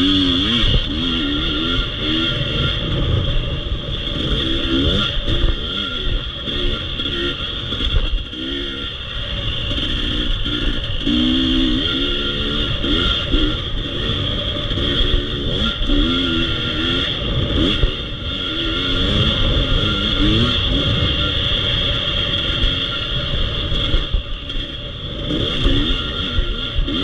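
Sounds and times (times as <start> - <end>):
dirt bike engine revving: 0.0 - 27.0
steady high whine: 0.0 - 27.0.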